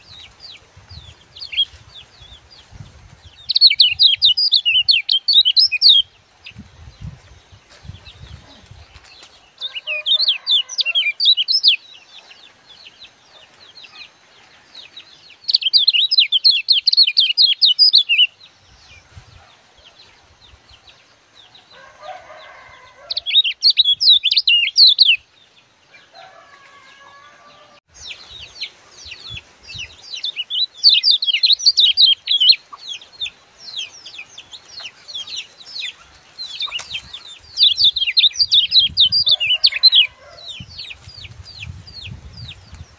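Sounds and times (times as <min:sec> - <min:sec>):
bird twittering song: 0:00.0 - 0:26.2, 0:27.9 - 0:42.9.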